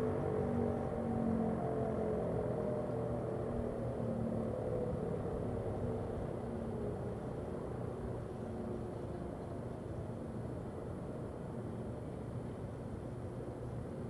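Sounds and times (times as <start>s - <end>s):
faint warning sirens wailing: 0.0s - 12.6s.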